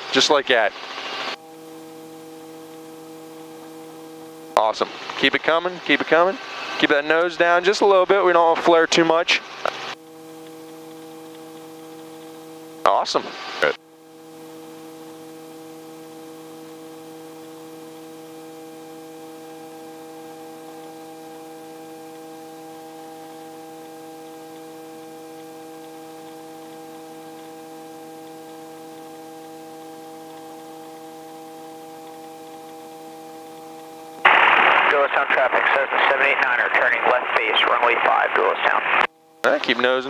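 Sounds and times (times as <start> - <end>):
helicopter engine and rotors humming: 0.0 - 40.0.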